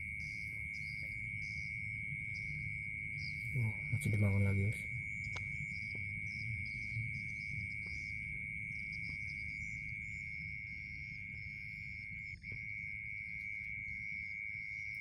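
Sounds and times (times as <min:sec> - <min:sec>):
insect steady high trill: 0:00.0 - 0:15.0
insects chirping: 0:00.0 - 0:15.0.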